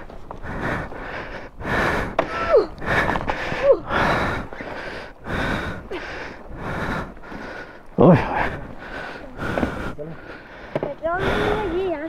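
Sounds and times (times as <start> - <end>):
person panting hard: 0.0 - 11.9.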